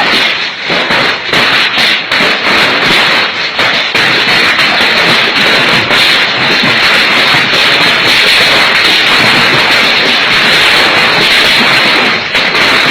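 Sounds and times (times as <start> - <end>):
hail pelting down: 0.0 - 12.9.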